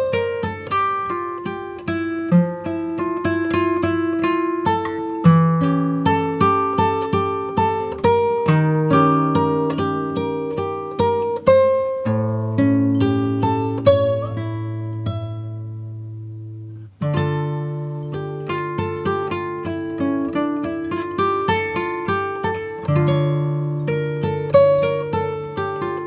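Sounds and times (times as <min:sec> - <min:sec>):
acoustic guitar picking: 0:00.0 - 0:26.0.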